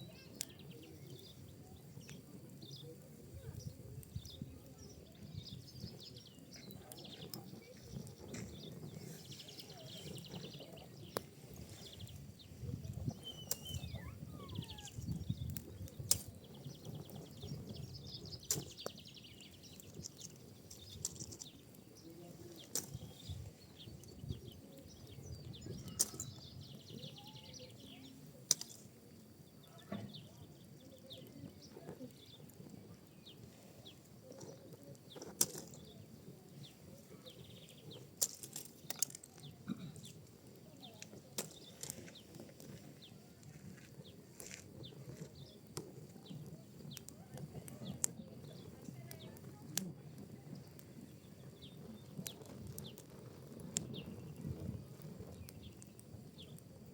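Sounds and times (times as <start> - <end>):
fire crackling and popping: 0.0 - 56.9
fire hissing: 0.0 - 56.9
low flame rumble: 0.0 - 56.9.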